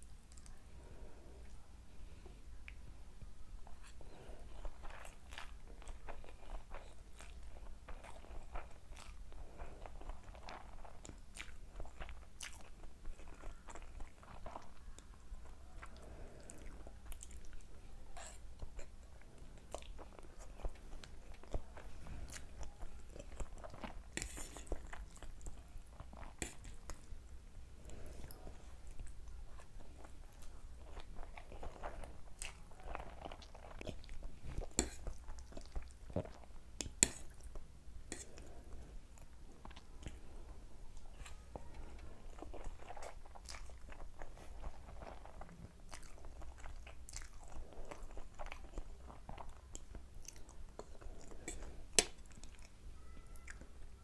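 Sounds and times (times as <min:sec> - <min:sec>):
chewing noodles: 0:03.6 - 0:53.7.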